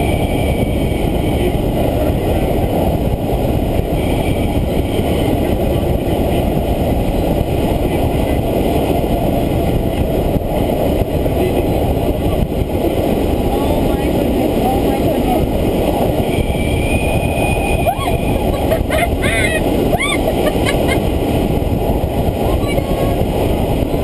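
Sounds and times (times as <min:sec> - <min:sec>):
air rushing past glider canopy: 0:00.0 - 0:24.0.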